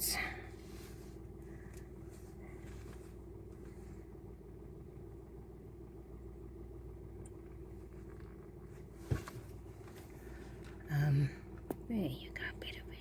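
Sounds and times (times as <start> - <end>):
engine hum: 0.0 - 13.0.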